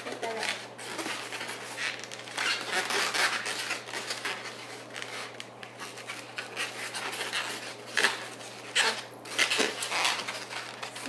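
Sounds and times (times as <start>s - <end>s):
balloons rubbing and twisting: 0.0s - 11.0s.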